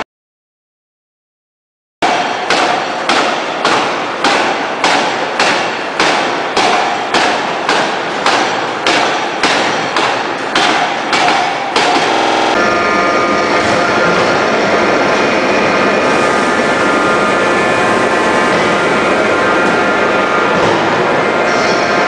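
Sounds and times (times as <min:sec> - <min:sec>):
forging hammer blows ringing: 0:02.0 - 0:22.0
steady machine noise: 0:02.0 - 0:22.0.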